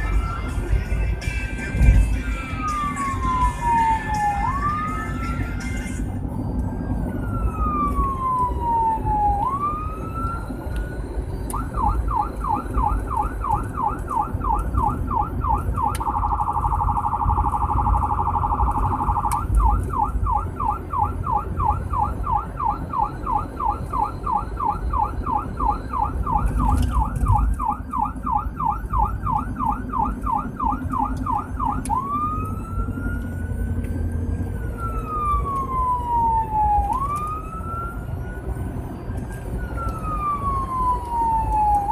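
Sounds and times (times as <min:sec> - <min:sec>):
emergency vehicle siren: 0:00.0 - 0:41.9
engine and road rumble: 0:00.0 - 0:41.9.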